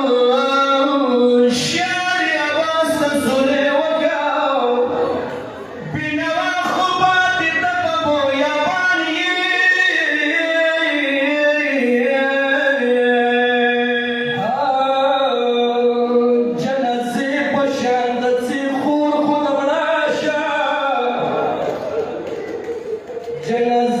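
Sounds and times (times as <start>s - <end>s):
man chanting: 0.0s - 21.7s, 23.3s - 24.0s.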